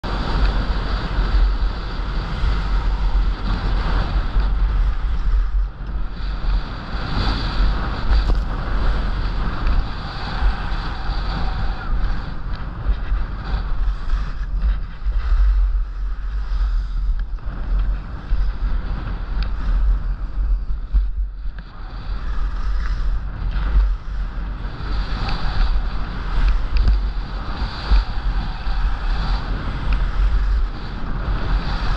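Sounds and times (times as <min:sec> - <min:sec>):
low rumble: 0:00.0 - 0:31.9
skis scraping on snow: 0:00.0 - 0:31.9
wind buffeting microphone: 0:00.0 - 0:31.9.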